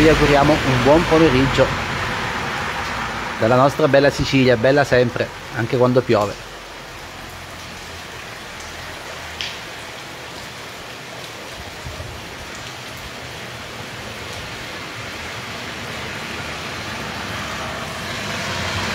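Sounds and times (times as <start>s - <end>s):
rain on paved street: 0.0s - 18.9s.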